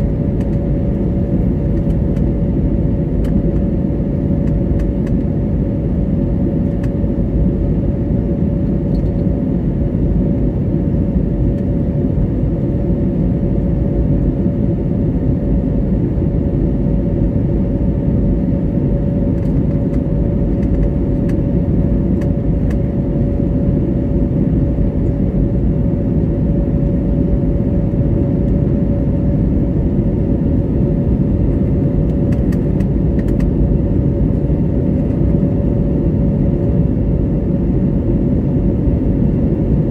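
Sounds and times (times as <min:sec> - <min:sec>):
aircraft cabin engine rumble: 0:00.0 - 0:39.9
mid-pitched hum: 0:00.0 - 0:39.9.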